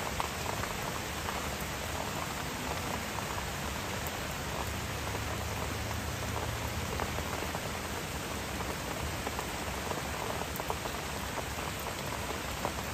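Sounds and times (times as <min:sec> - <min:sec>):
raindrops ticking on surfaces: 0:00.0 - 0:12.9
steady rain falling: 0:00.0 - 0:12.9.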